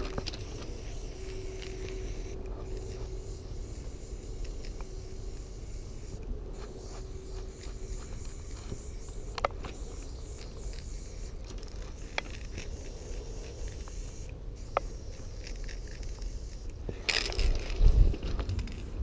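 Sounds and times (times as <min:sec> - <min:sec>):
spray paint can hissing: 0:00.0 - 0:19.0.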